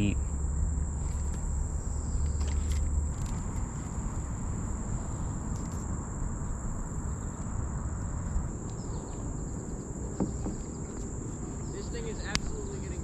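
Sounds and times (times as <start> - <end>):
insects singing high tone: 0.0 - 13.0
low rumble: 0.0 - 13.0.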